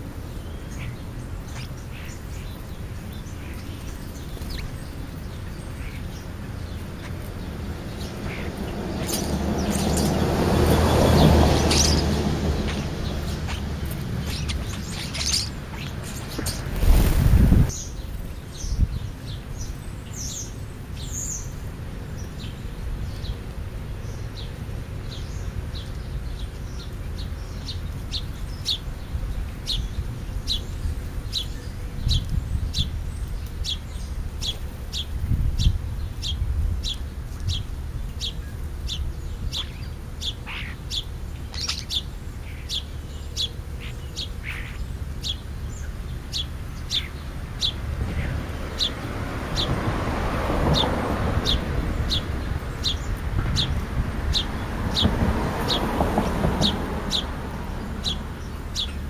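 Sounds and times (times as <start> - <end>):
bird chirping: 0.2 - 21.6, 22.2 - 49.8, 50.6 - 59.0.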